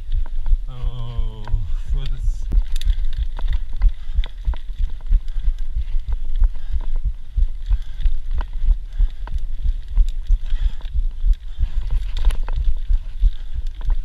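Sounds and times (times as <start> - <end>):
bike thudding over bumps: 0.0 - 14.0.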